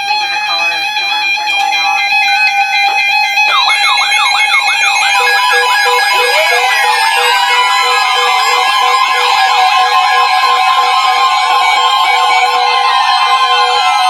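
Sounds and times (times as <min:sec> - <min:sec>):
steady electronic alarm tones: 0:00.0 - 0:14.0
warbling siren-like alarm: 0:00.0 - 0:14.0
on-off beep: 0:00.2 - 0:14.0
rising and falling pitch glides: 0:01.4 - 0:14.0.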